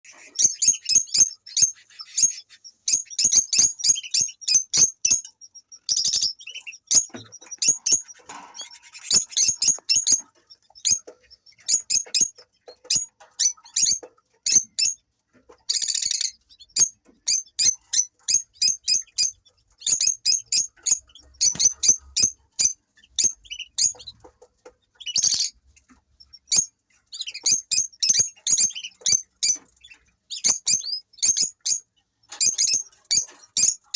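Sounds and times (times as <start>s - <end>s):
lovebirds chirping: 0.0s - 33.9s.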